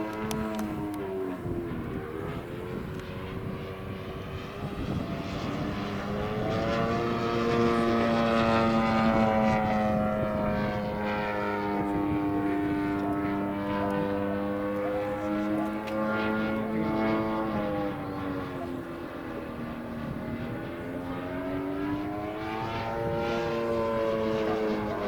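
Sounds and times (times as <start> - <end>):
model airplane motor buzzing: 0.0 - 25.0.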